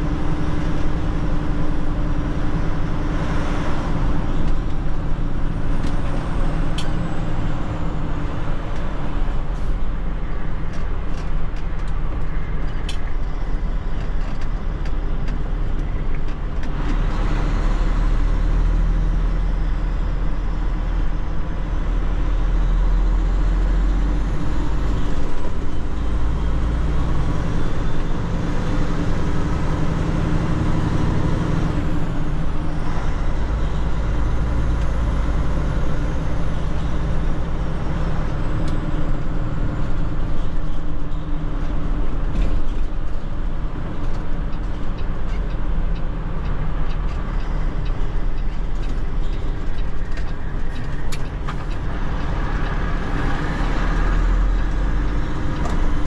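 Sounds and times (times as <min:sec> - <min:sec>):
diesel truck engine drone: 0:00.0 - 0:56.0
road noise inside cab: 0:00.0 - 0:56.0.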